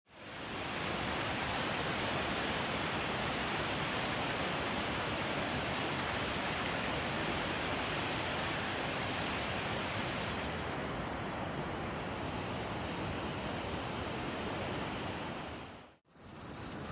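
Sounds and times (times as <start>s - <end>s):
river water rushing: 0.1s - 16.9s.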